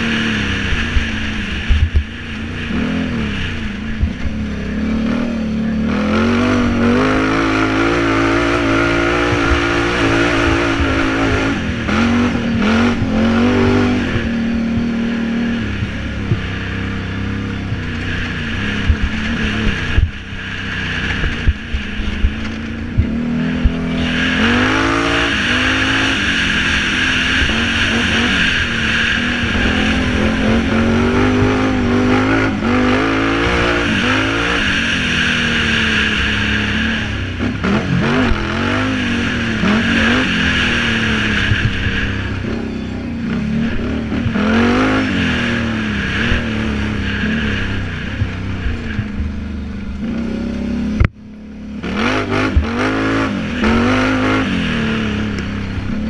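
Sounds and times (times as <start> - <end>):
atv engine revving: 0.0 - 56.0
steady rushing noise: 0.0 - 56.0.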